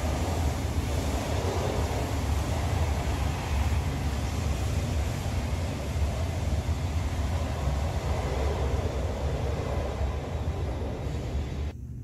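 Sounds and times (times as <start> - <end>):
subway train rumbling to a stop: 0.0 - 11.8.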